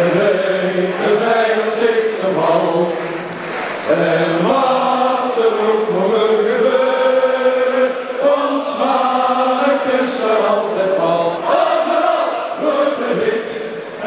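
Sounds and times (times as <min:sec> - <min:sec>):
crowd singing in long held notes: 0:00.0 - 0:14.0.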